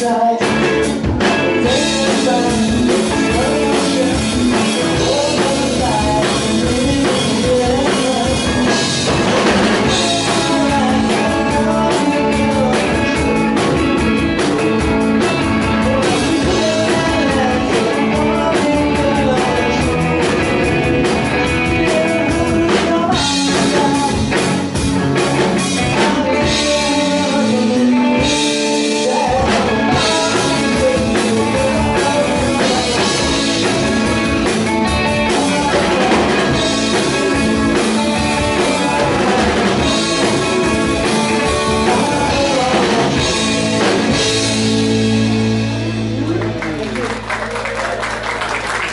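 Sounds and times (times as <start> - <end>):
man singing lead: 0.0 - 46.8
bass guitar: 0.0 - 48.9
drum kit: 0.0 - 48.9
electric guitar: 0.0 - 48.9.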